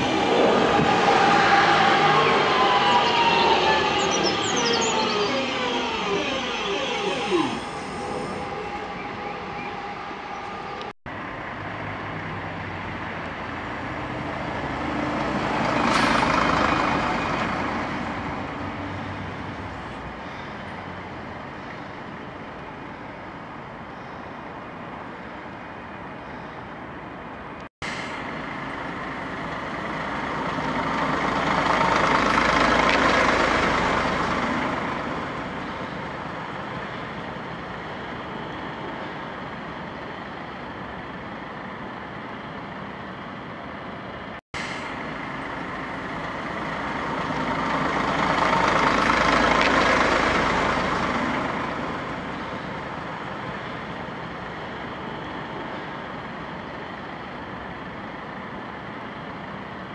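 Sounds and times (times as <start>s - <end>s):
diesel bus driving past: 0.0s - 59.9s.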